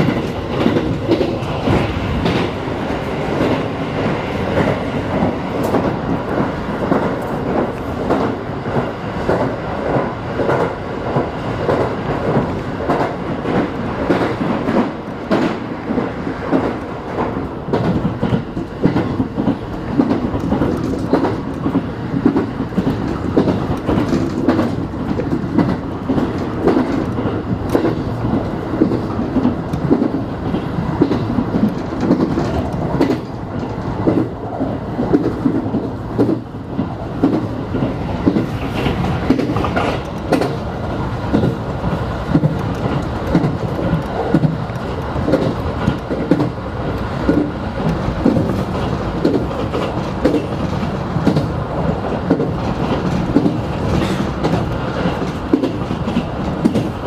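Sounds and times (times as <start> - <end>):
rumble of wheels on rail: 0.0 - 57.0
wheels clicking over rail joints: 0.0 - 57.0.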